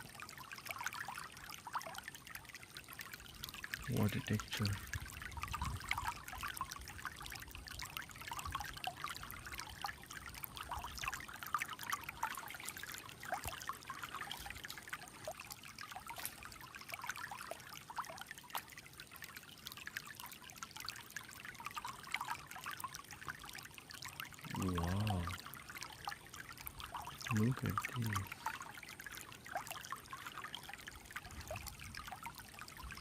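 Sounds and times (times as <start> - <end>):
stream babbling over stones: 0.0 - 33.0.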